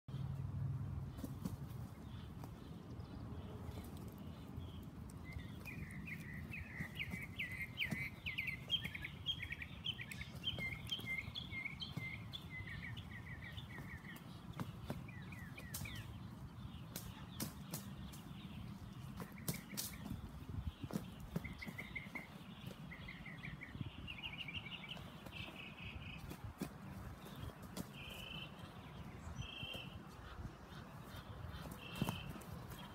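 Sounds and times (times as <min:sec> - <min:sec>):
bird chirping rapidly: 0:04.3 - 0:32.9.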